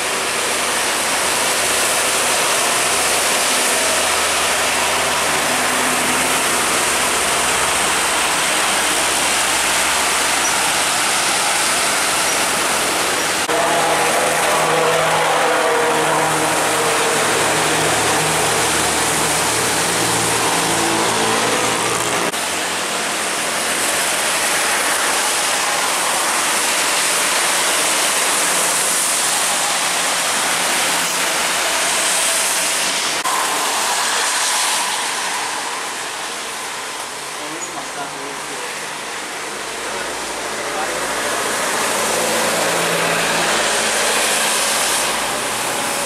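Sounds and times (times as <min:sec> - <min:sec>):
truck engine hum: 0:00.0 - 0:26.4, 0:30.2 - 0:46.0
tyres hissing on wet road: 0:00.0 - 0:46.0.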